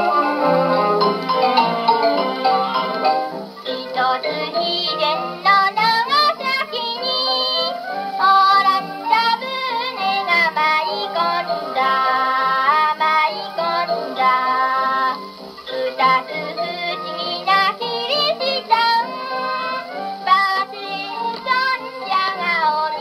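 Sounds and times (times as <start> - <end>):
instrumental accompaniment: 0.0 - 23.0
woman singing: 3.6 - 23.0.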